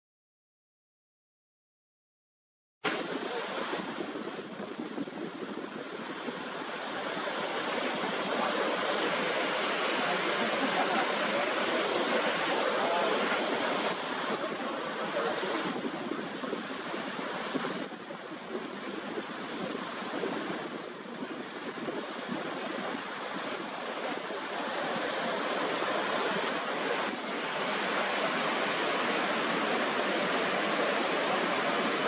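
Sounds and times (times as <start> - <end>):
waterfall rushing: 2.9 - 32.0.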